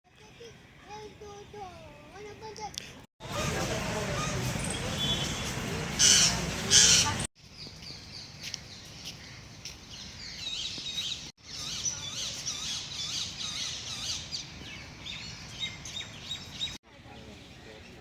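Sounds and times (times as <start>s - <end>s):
birds chirping and calling: 3.2s - 18.0s.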